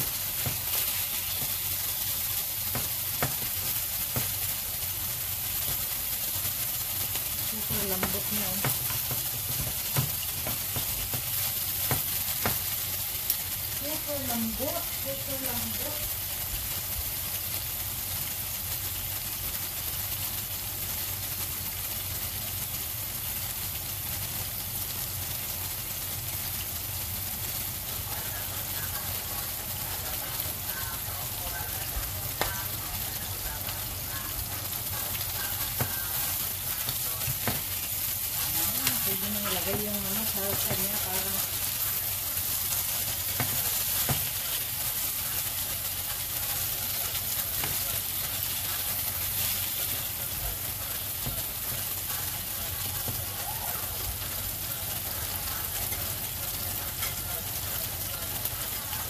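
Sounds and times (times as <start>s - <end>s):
meat sizzling in oil: 0.0s - 59.0s.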